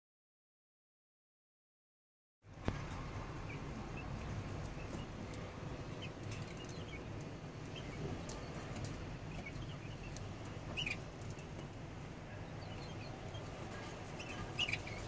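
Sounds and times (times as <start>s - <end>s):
birds chirping: 2.5s - 15.0s.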